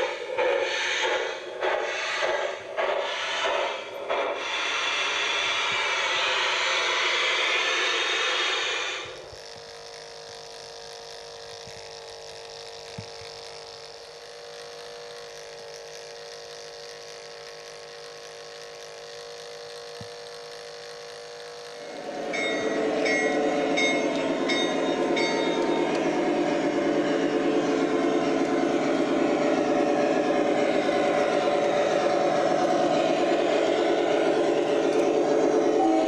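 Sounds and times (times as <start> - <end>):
model train running past: 0.0 - 36.0.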